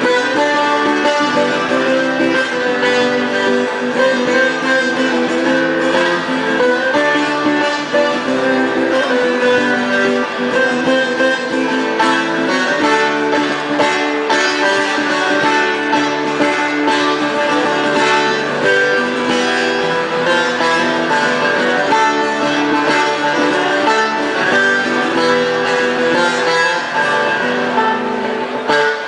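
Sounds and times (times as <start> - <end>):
acoustic guitar: 0.0 - 29.0
plucked lute: 0.0 - 29.0.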